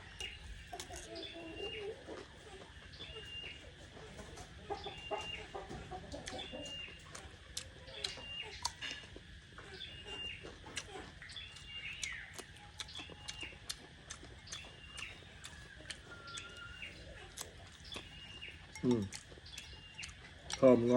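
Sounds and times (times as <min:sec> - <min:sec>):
birds calling: 0:00.0 - 0:20.9.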